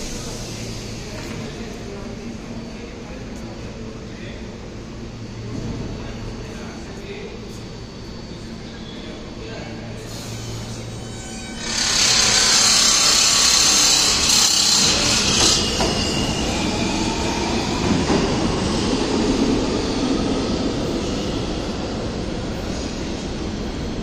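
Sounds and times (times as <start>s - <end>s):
subway train rumbling on track: 0.0s - 24.0s.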